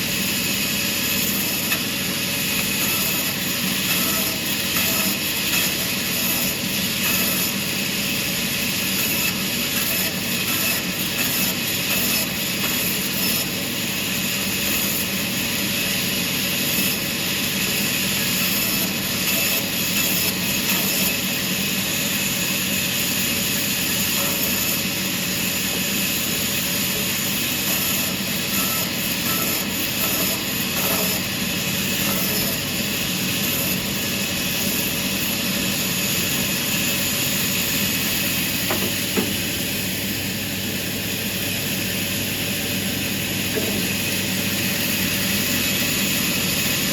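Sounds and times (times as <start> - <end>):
sawmill machinery hum: 0.0 - 46.9.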